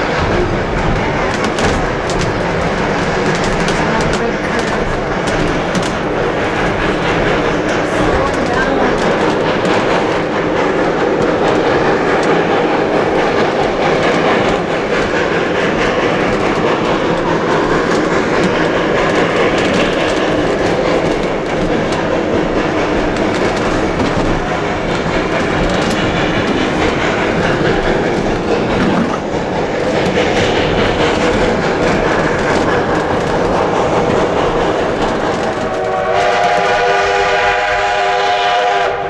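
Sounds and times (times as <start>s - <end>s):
train rolling rumble: 0.0s - 39.0s
wheels clacking over rail joints: 0.0s - 39.0s.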